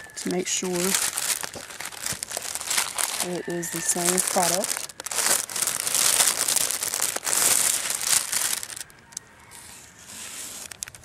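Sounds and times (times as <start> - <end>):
plastic packaging crinkling: 0.0 - 9.2, 10.2 - 11.0.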